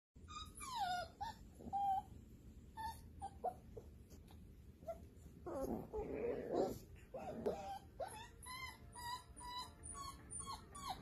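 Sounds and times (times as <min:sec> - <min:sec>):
puppies yipping and squealing: 0:00.2 - 0:04.0, 0:04.8 - 0:11.0
puppies whining: 0:00.2 - 0:11.0.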